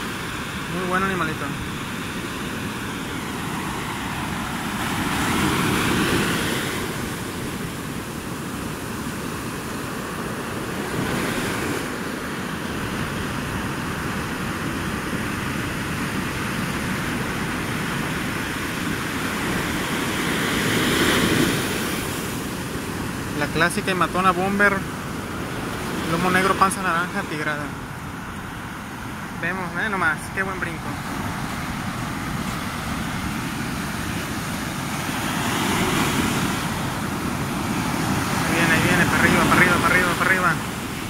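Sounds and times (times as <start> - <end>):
surf breaking on beach: 0.0 - 41.0.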